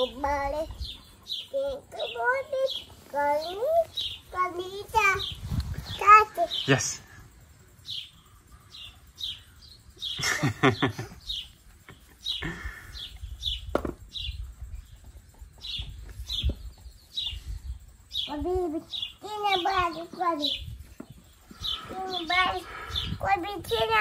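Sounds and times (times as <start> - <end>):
small bird chirping: 0.0 - 24.0.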